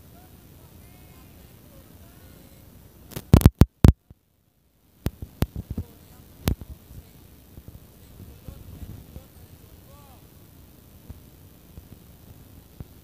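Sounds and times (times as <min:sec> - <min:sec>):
faint crowd hubbub: 0:00.0 - 0:13.0.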